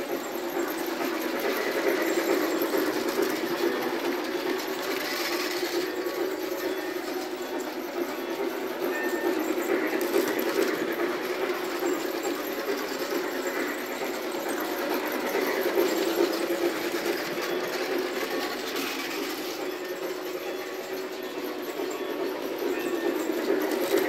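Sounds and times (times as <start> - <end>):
model trains running on track: 0.0 - 24.0.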